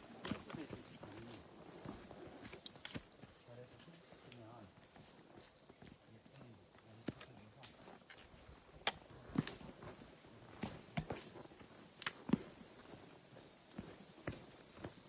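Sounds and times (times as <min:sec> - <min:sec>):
footsteps on rocky trail: 0:00.0 - 0:15.0.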